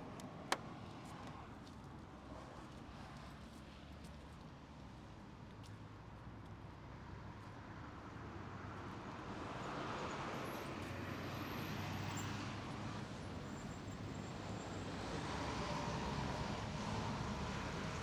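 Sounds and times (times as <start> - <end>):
distant road traffic: 0.0 - 18.0.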